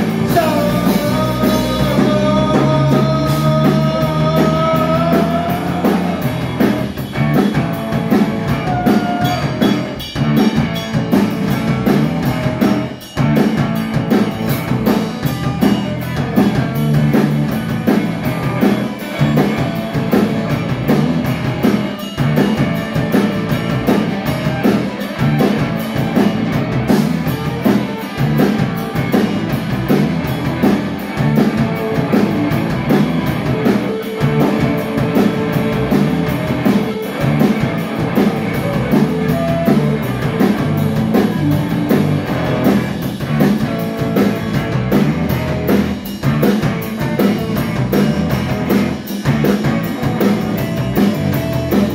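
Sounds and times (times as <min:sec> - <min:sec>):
drum kit: 0:00.0 - 0:51.9
electric guitar: 0:00.0 - 0:51.9.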